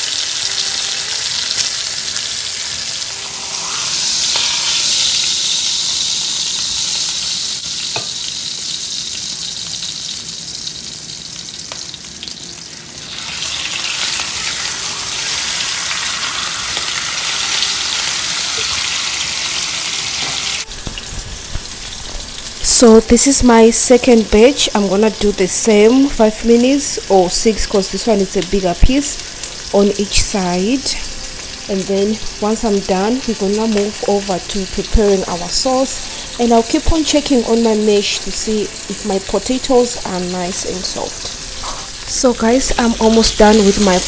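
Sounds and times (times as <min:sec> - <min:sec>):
meat sizzling in a pan: 0:00.0 - 0:44.0.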